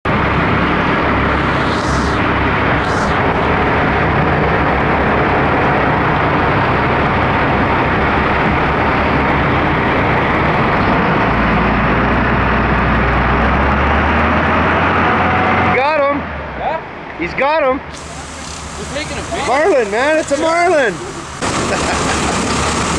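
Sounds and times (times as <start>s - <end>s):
boat engine droning: 0.0s - 22.9s
wind and water rushing: 0.1s - 15.8s, 17.9s - 22.9s.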